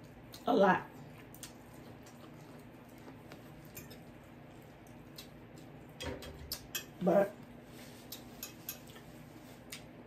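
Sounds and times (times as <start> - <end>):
quiet chewing: 0.0 - 10.0.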